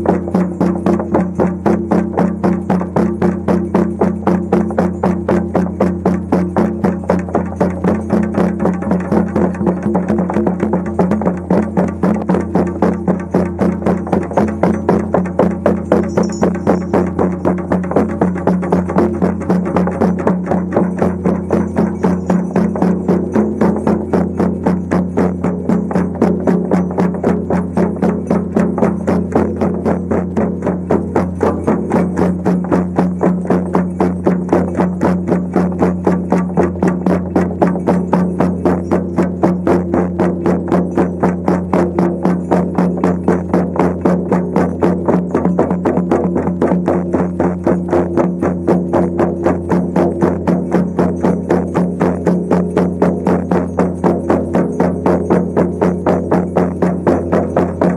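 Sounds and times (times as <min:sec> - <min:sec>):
frame drums beaten fast: 0:00.0 - 0:57.9.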